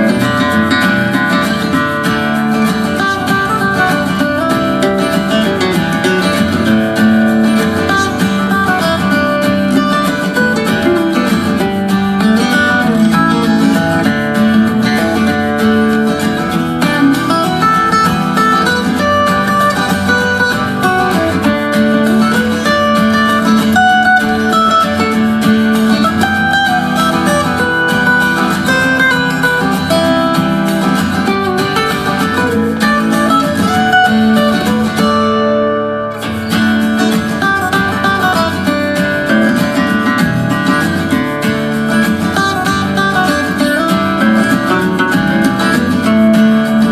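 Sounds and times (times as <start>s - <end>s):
acoustic guitar music: 0.0s - 46.9s.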